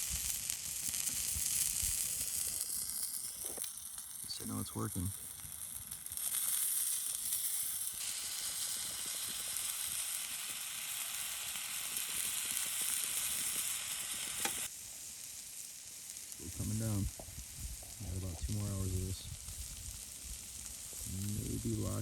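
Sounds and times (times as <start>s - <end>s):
pie sizzling on stove: 0.0s - 22.0s.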